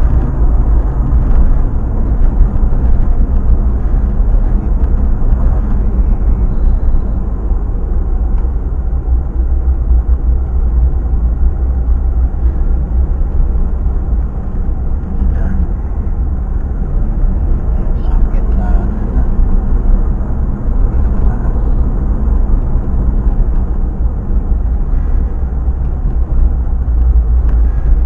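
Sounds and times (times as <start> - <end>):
vehicle road and wind rumble: 0.0 - 28.0.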